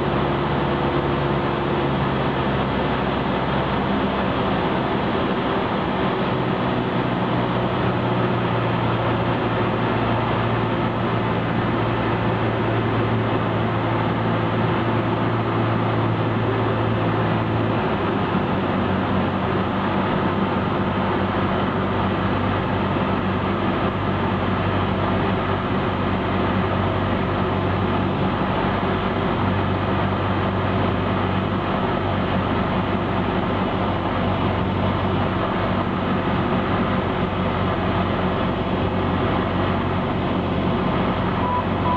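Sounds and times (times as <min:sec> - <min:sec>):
airplane engine and propeller drone: 0:00.0 - 0:41.9.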